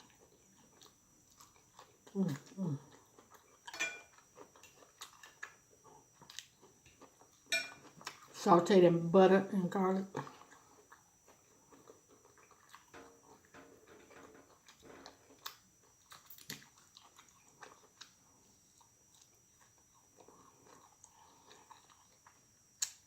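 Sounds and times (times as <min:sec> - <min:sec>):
person chewing: 0:00.0 - 0:08.4, 0:10.2 - 0:23.0.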